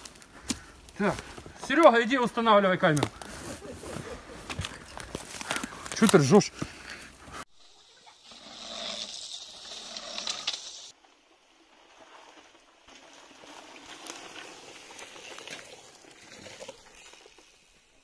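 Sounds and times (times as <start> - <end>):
bicycle tyres rolling on dirt: 0.0 - 18.0.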